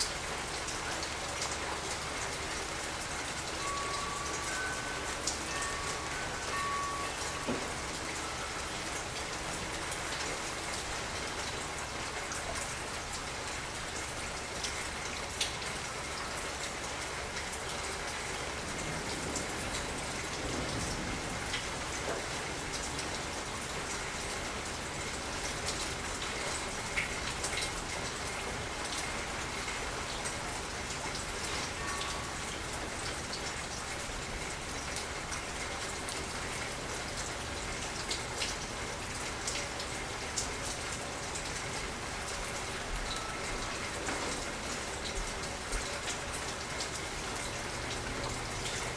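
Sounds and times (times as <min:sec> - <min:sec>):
raindrops ticking on surfaces: 0:00.0 - 0:48.9
steady rain hiss: 0:00.0 - 0:48.9.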